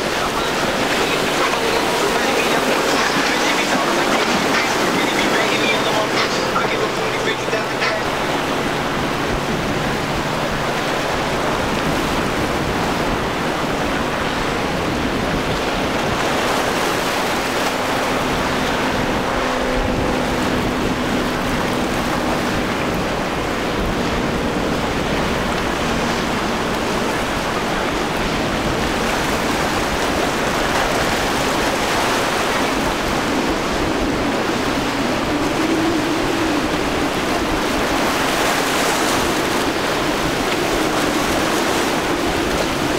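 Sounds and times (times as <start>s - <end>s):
outboard motor drone: 0.0s - 42.9s
surf and wake water rushing: 0.0s - 42.9s.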